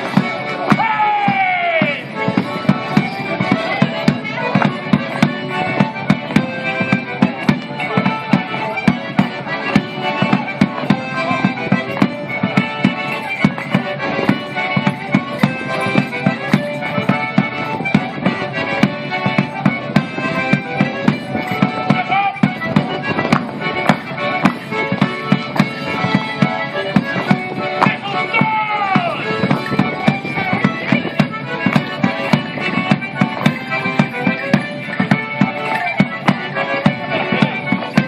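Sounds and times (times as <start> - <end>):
folk dance tune on squeezebox: 0.0 - 38.0.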